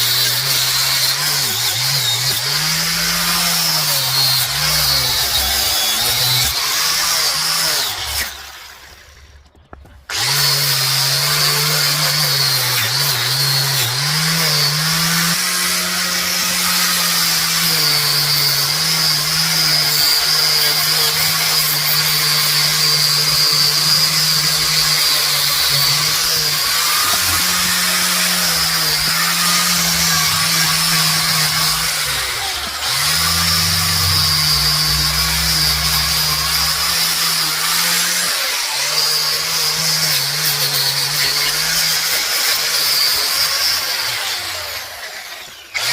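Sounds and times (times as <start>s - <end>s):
electric power tool running: 0.0s - 9.2s, 10.1s - 45.9s.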